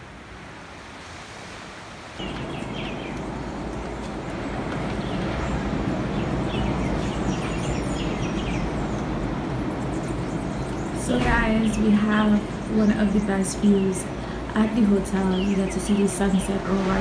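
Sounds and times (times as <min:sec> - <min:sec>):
birds chirping: 0:02.1 - 0:17.0
low outdoor rumble: 0:02.2 - 0:17.0.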